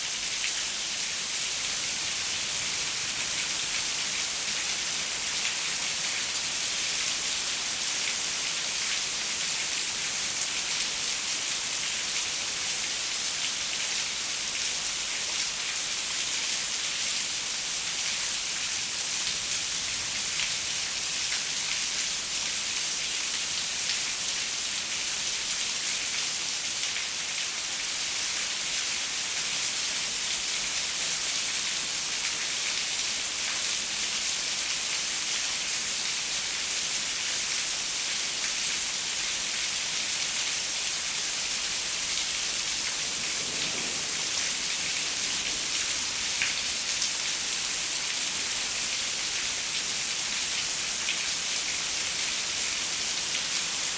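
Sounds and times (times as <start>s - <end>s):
rain on a window: 0.2s - 53.9s.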